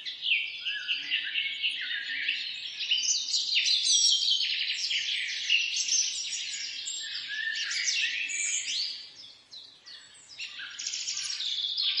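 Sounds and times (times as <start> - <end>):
birds chirping and singing: 0.0 - 12.0.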